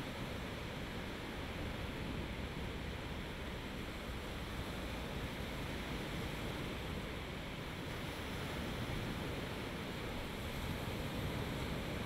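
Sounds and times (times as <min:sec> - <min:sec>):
waves washing onto beach: 0:00.0 - 0:12.0.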